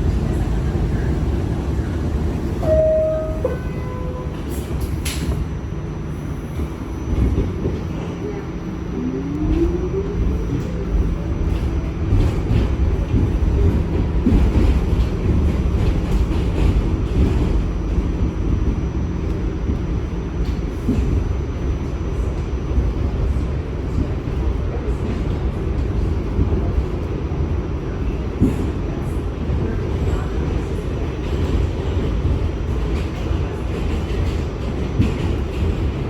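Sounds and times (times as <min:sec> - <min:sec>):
subway train rumbling: 0:00.0 - 0:36.0.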